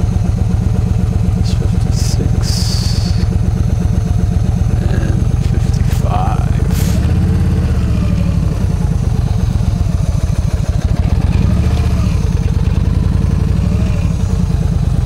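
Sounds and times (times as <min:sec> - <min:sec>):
motorcycle engine low revs: 0:00.0 - 0:15.0.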